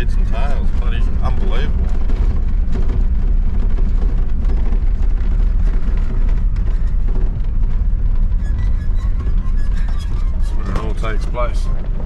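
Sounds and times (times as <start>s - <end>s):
small rattles and knocks: 0.0s - 12.0s
vehicle engine and tyres rumbling: 0.0s - 12.0s.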